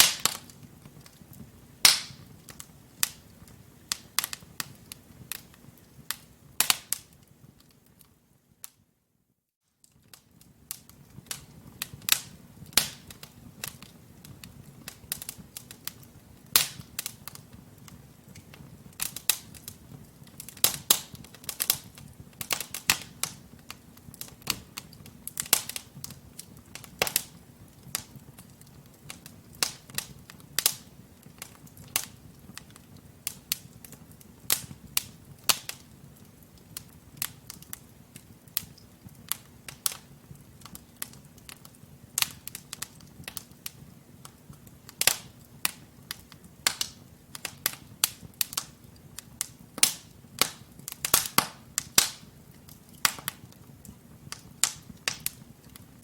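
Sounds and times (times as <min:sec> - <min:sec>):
wood fire crackling and popping: 0:00.0 - 0:08.8, 0:09.7 - 0:56.0.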